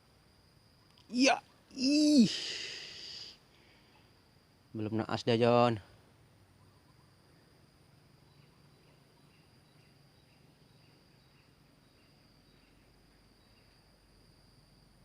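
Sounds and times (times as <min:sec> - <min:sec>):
insect chirping: 0:00.0 - 0:15.0
insects high-pitched drone: 0:00.0 - 0:15.0.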